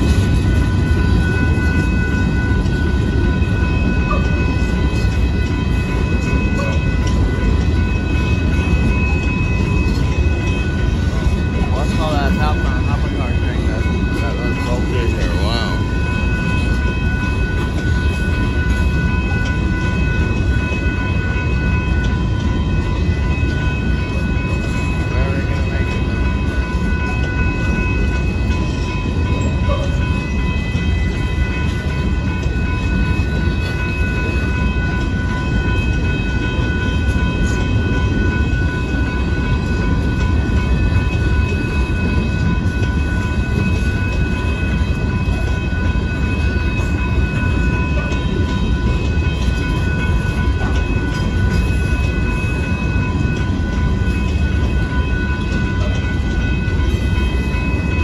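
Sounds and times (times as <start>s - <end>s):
rumble of wheels on rail: 0.0s - 58.0s.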